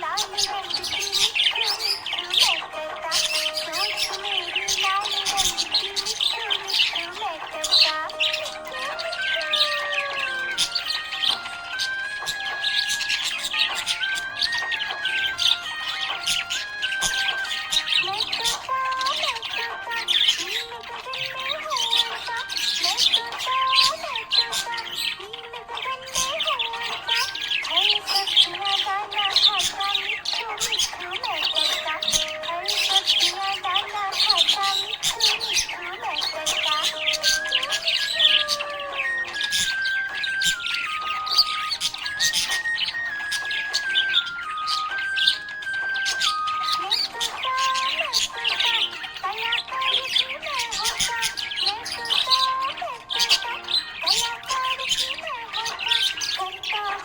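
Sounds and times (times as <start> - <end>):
budgerigars chirping: 0.0 - 57.0
music playing: 0.0 - 57.0.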